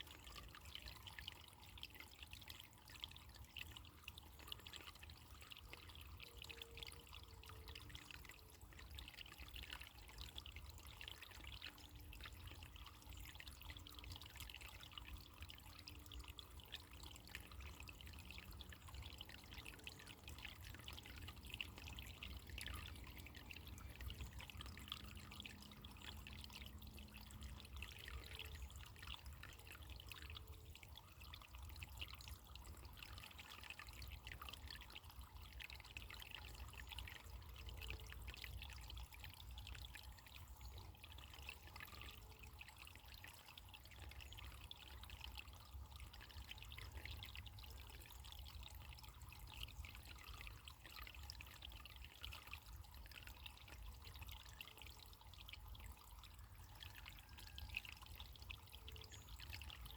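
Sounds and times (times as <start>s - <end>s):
faint water trickling: 0.0s - 59.9s.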